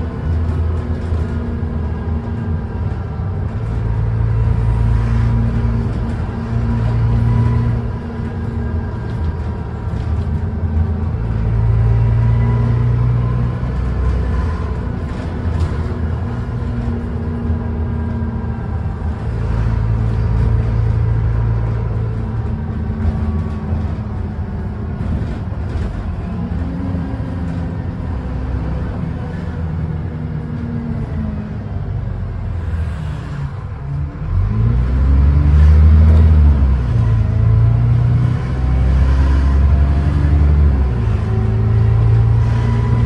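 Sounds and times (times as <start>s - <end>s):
bus diesel engine accelerating: 0.0s - 43.0s.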